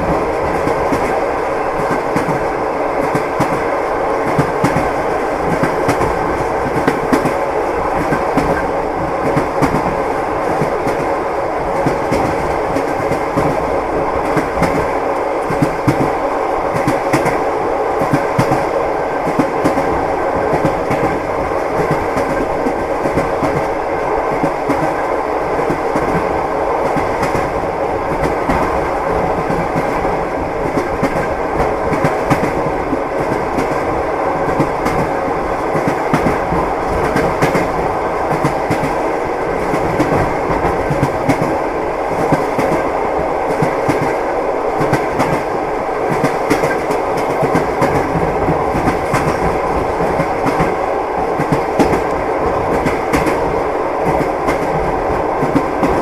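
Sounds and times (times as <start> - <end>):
train wheels clacking: 0.0 - 56.0.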